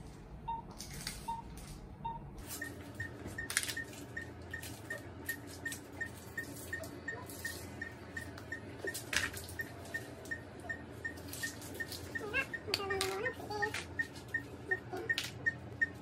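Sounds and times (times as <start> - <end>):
patient monitor beeping: 0.0 - 16.0.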